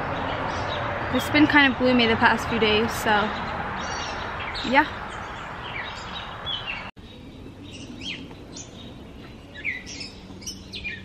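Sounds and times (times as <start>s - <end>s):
outdoor background hiss: 0.0s - 11.0s
songbirds chirping: 0.0s - 11.0s.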